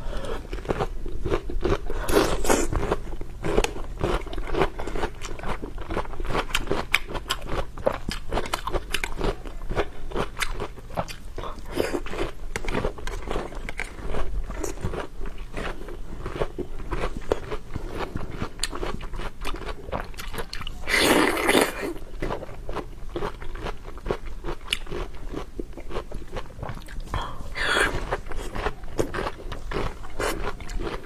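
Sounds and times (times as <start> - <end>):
person chewing crunchy food: 0.0 - 31.0.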